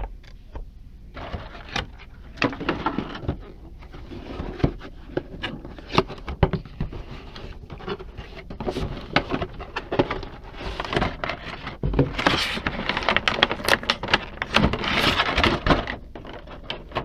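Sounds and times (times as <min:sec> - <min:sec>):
packaging rustling: 0:01.1 - 0:17.0.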